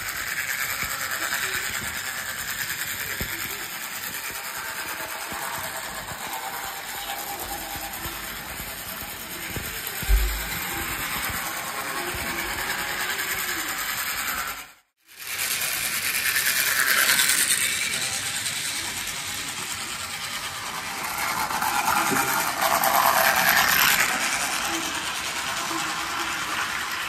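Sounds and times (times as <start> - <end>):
toy train rattling on track: 0.0 - 27.0.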